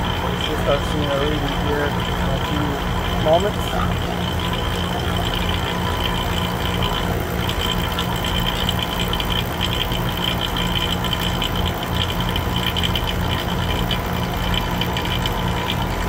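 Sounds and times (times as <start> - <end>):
vacuum pump humming and rattling: 0.0 - 16.0.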